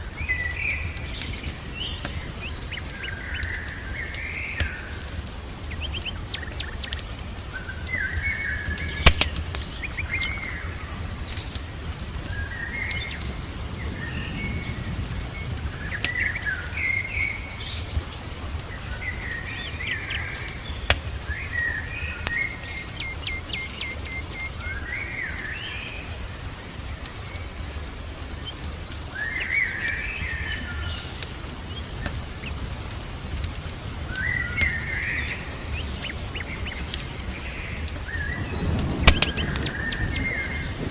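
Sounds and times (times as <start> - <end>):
birds chirping: 0.0 - 40.9
fireplace crackles: 0.0 - 40.9
low background hiss: 0.0 - 40.9.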